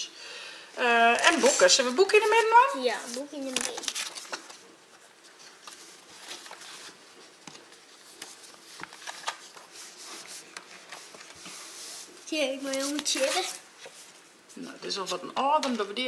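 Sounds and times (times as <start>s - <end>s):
photo prints rustling: 1.1s - 14.6s.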